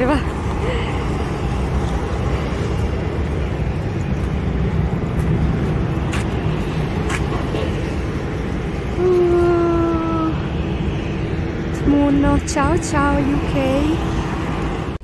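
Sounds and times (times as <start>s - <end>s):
low rumble of aircraft: 0.0s - 15.0s.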